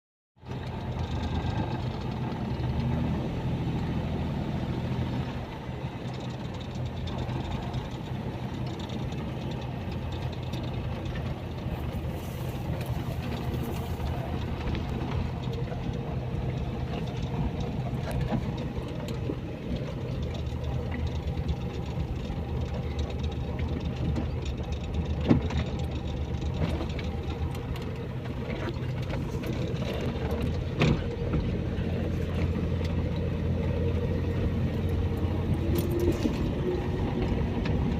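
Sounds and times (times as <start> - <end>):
engine running steadily: 0.4 - 37.9.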